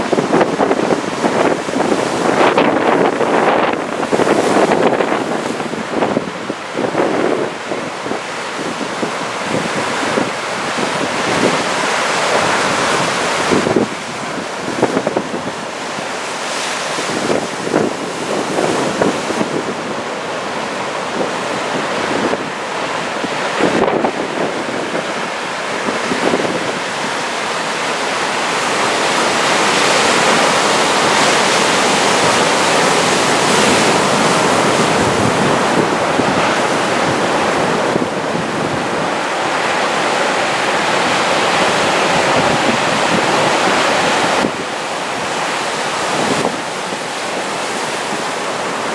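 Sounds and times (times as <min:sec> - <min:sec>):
heavy ocean surf rushing: 0:00.0 - 0:48.9
wind buffeting microphone: 0:00.0 - 0:48.9.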